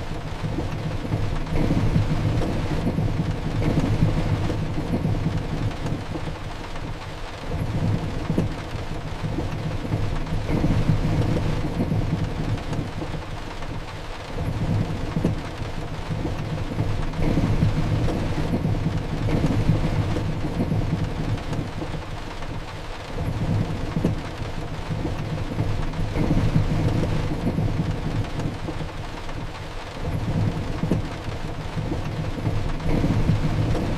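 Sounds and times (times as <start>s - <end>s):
steady rain: 0.0s - 33.9s
rolling thunder rumble: 0.3s - 6.4s, 9.2s - 13.7s, 14.4s - 22.5s, 23.2s - 29.1s, 30.0s - 33.9s.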